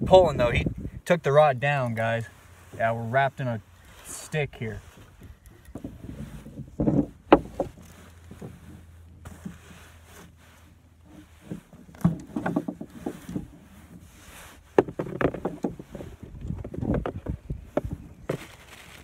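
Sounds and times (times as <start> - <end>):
branch rustling and creaking: 1.7 - 19.0.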